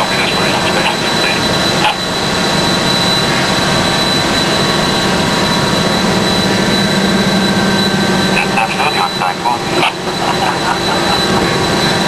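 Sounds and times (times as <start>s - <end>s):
high machinery whine: 0.0s - 12.0s
low machinery hum: 0.0s - 12.0s.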